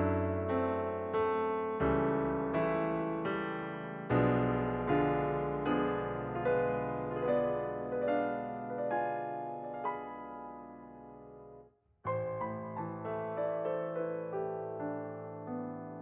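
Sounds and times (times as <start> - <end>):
gentle electric piano: 0.0 - 16.0.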